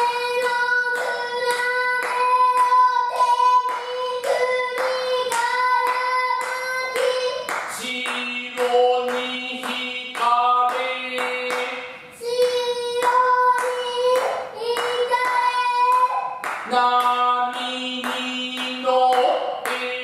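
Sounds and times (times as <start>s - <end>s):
lower voice chanting: 0.0s - 20.0s.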